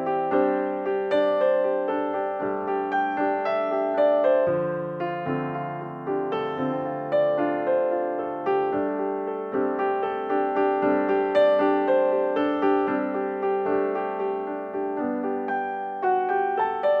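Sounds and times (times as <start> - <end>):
solo piano notes: 0.0 - 17.0.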